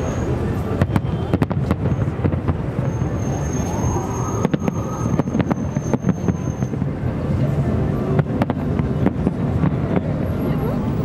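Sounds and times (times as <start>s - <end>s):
background rumble: 0.0s - 11.0s
distant fireworks bangs and cracks: 0.0s - 11.0s.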